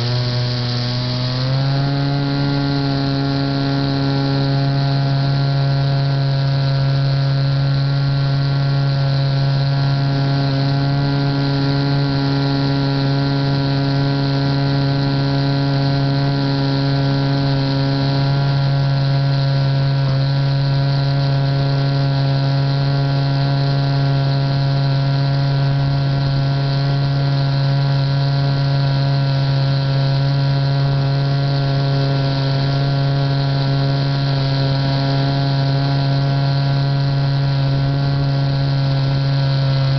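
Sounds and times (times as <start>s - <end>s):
model airplane motor drone: 0.0s - 39.9s.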